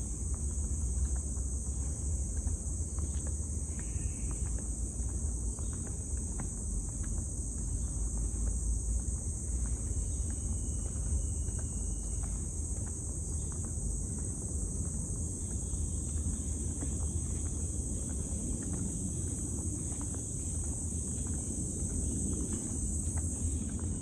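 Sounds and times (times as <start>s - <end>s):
insects chorus: 0.0s - 24.0s
wind rumble on microphone: 0.0s - 24.0s.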